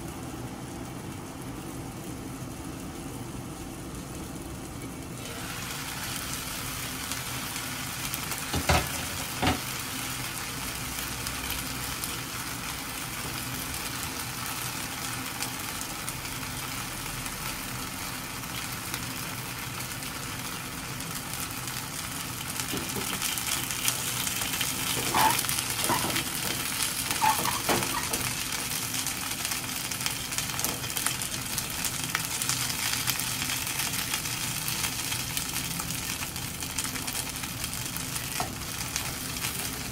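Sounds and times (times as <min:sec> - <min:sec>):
dumplings sizzling in a frying pan: 0:00.0 - 0:39.9.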